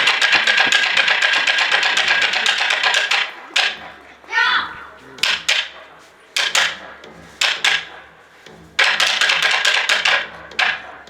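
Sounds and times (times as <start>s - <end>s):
wooden clappers striking a board: 0.0s - 4.1s, 5.2s - 11.0s.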